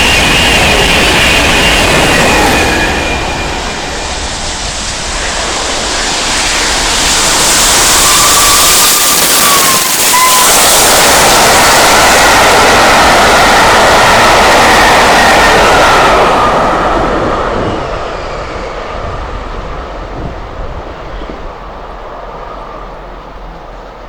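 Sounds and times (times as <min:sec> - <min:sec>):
rushing wind roar: 0:00.0 - 0:24.0.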